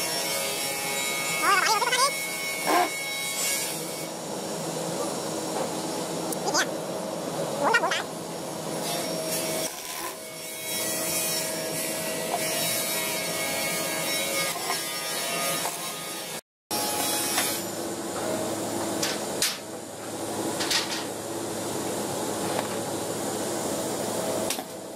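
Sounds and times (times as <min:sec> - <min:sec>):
workshop noise: 0:00.0 - 0:24.8.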